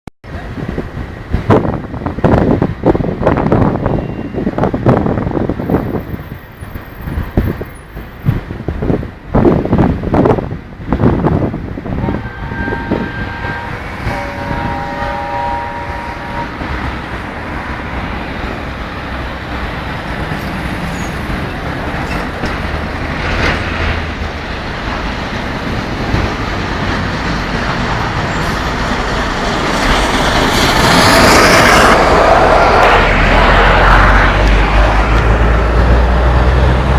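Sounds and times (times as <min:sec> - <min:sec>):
train wheels rumbling on rails: 0:00.2 - 0:36.9.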